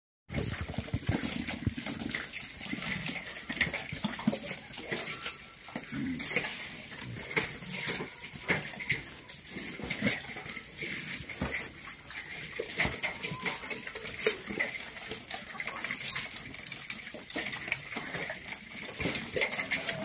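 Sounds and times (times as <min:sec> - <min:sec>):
pigs chewing: 0:00.3 - 0:20.0
clinks against metal feed bowls: 0:00.4 - 0:20.0
pigs grunting: 0:00.4 - 0:20.0.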